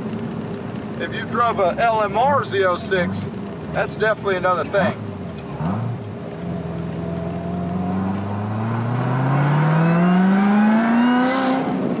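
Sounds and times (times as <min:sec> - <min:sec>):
car engine accelerating: 0:02.3 - 0:12.0.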